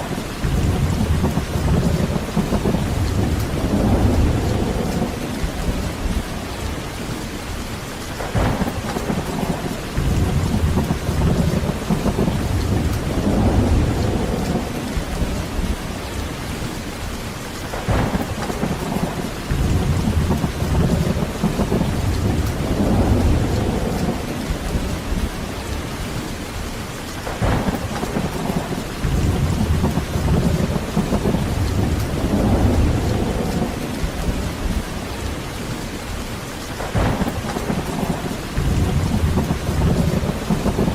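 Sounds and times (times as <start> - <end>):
thunder cracking and rumbling: 0.0 - 7.3, 8.0 - 40.9
heavy rain falling: 0.0 - 40.9.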